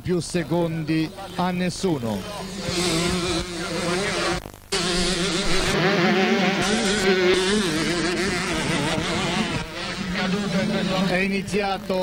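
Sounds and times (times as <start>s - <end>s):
motocross bikes buzzing: 1.3s - 12.0s.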